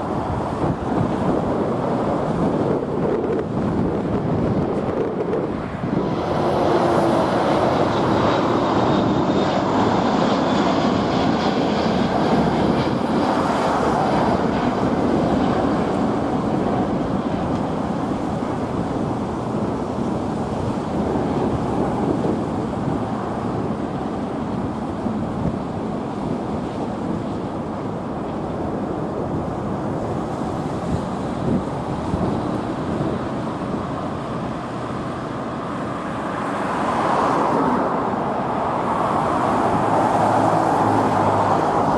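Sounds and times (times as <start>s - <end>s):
jet airliner taking off: 0.0s - 41.9s.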